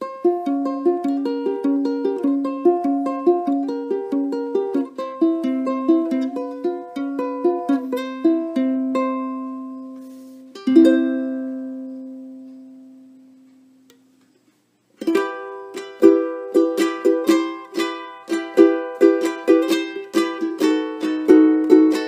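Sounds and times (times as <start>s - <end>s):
ukulele strummed chord ringing: 0.0s - 13.1s, 15.0s - 22.0s
ukulele plucked notes: 0.0s - 14.0s, 15.0s - 22.0s.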